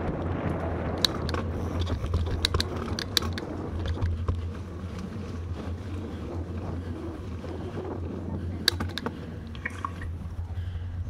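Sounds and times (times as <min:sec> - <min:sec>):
sharp clicks from bike: 0:00.0 - 0:10.2
bicycle ride rumble: 0:00.0 - 0:11.0
wind on microphone: 0:00.0 - 0:11.0.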